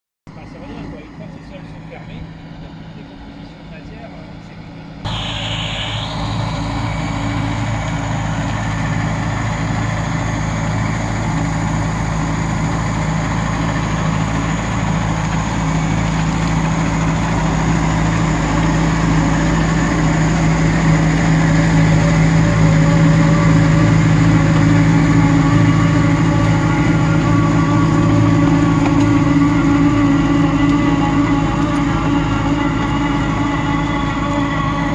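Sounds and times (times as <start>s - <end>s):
tractor engine under load: 0.3s - 34.9s.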